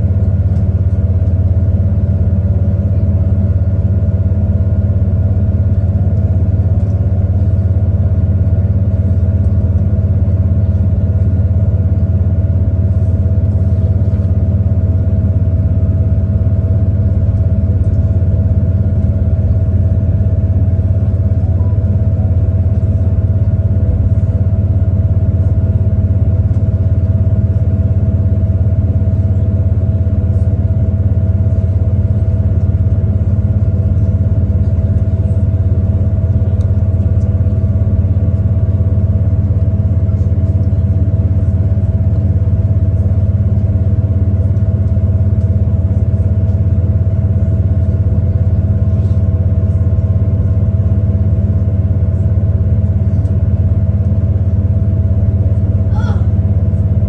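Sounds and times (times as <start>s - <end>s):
railcar engine drone: 0.0s - 57.0s
faint steady whine: 5.2s - 57.0s.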